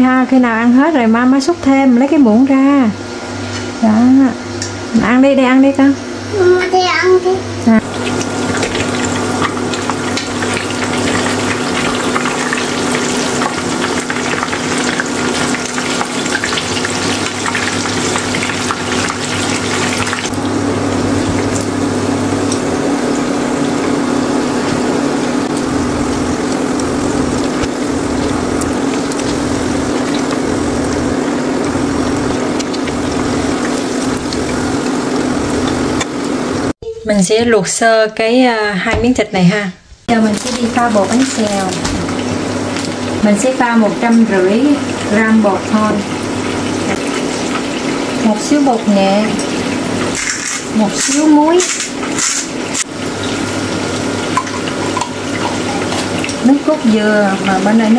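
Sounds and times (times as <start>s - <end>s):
food sizzling in hot oil: 0.0s - 36.8s, 40.0s - 57.9s.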